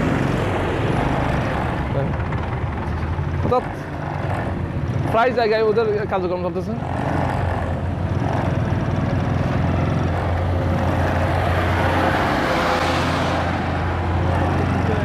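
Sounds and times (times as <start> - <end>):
rush of noise: 0.0 - 6.0, 6.6 - 15.0
motorcycle engine running: 0.0 - 12.2, 13.4 - 15.0.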